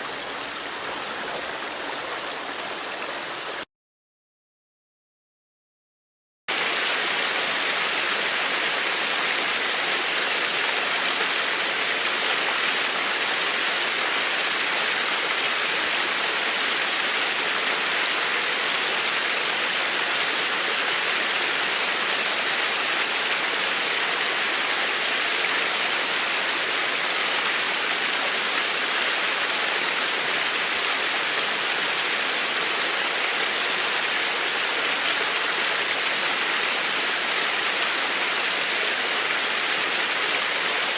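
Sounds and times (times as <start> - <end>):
running water rushing: 0.0 - 3.7, 6.5 - 40.9.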